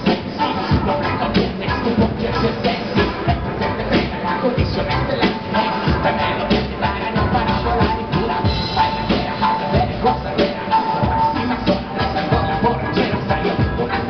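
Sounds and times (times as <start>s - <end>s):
drum kit playing a steady beat: 0.0s - 14.0s.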